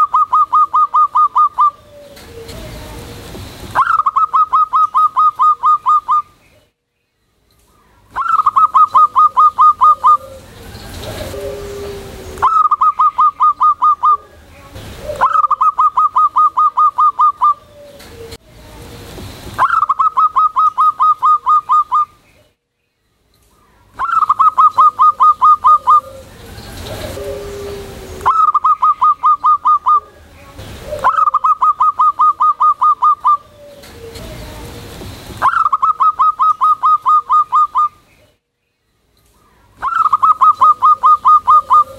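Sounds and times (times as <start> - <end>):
dove cooing: 0.0 - 6.3, 8.1 - 18.9, 19.6 - 22.2, 24.0 - 38.0, 39.8 - 41.9.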